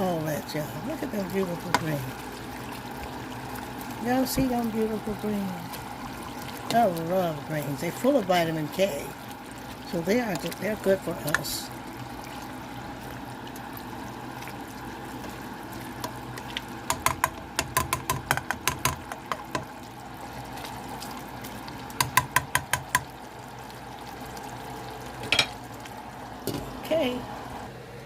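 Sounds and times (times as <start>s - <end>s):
pot simmering with bubbling: 0.0s - 28.0s.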